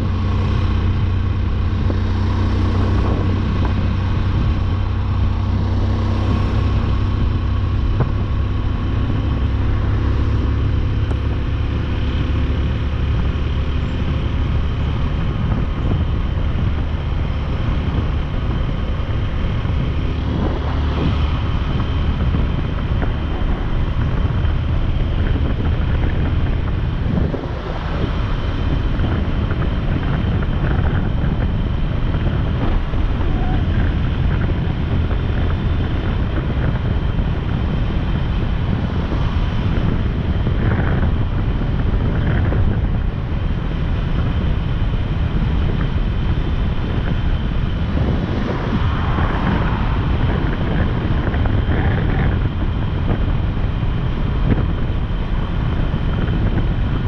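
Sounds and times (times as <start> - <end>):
motorcycle engine: 0.0 - 57.0
wind rushing over microphone: 0.0 - 57.0.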